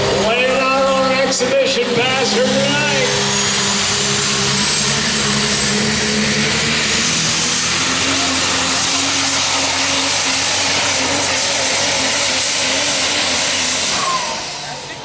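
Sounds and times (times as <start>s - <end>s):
diesel truck engine at full throttle: 0.0s - 15.0s.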